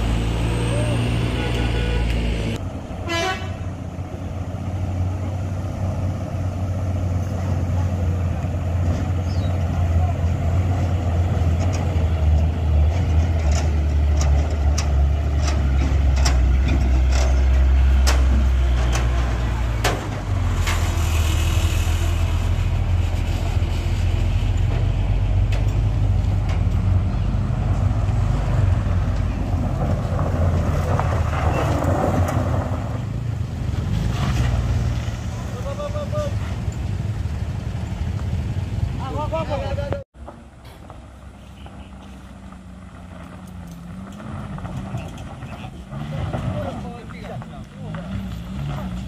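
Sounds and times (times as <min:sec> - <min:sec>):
diesel truck engine under load: 0:00.0 - 0:03.0, 0:03.6 - 0:49.0.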